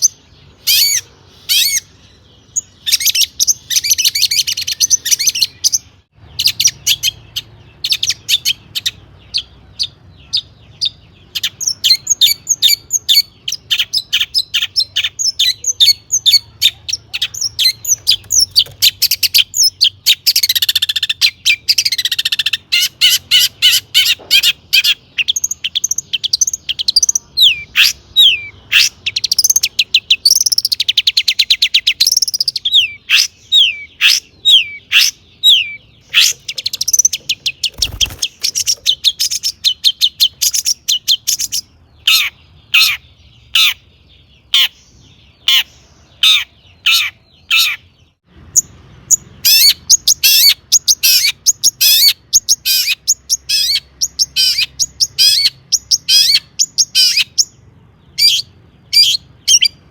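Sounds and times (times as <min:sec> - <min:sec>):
shrike singing: 0:00.0 - 0:59.9.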